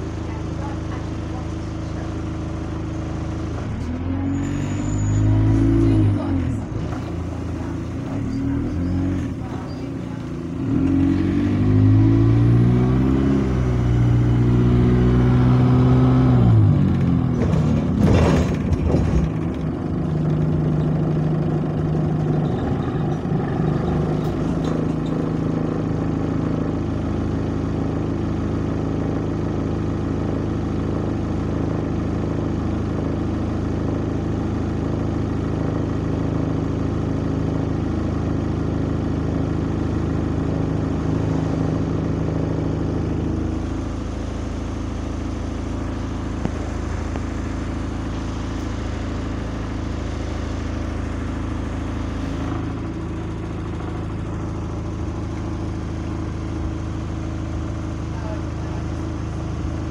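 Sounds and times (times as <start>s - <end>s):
bus diesel engine revving: 0.0s - 59.9s.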